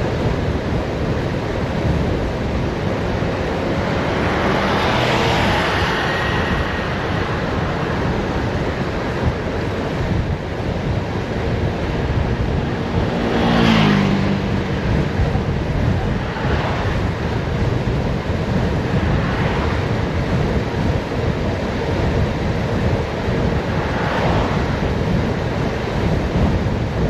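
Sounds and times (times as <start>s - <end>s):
wind rushing over microphone: 0.0s - 27.0s
vehicle passing by: 1.7s - 21.0s, 22.8s - 26.6s.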